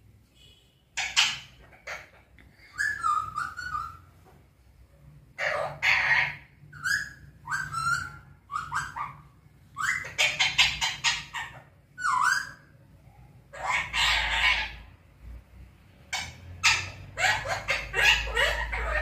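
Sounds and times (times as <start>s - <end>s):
parakeet squawking and chattering: 0.9s - 4.2s, 5.2s - 19.0s.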